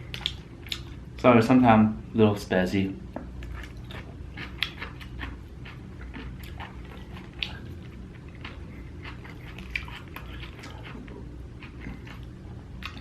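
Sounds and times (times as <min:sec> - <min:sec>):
low steady hum: 0:00.0 - 0:13.0
wet mouth chewing smacks: 0:00.1 - 0:01.0, 0:03.4 - 0:13.0.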